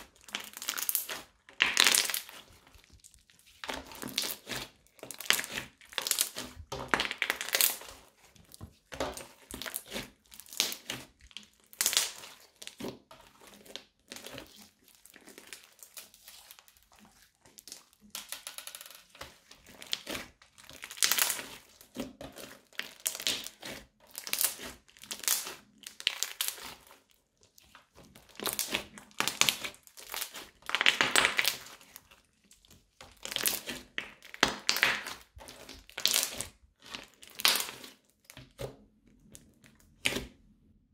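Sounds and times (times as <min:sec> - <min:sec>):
crunchy slime crackling: 0:00.0 - 0:18.4, 0:19.4 - 0:38.4.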